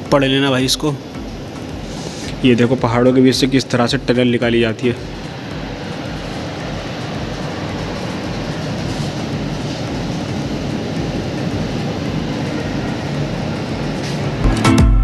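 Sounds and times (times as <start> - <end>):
train rumbling: 0.0 - 14.8.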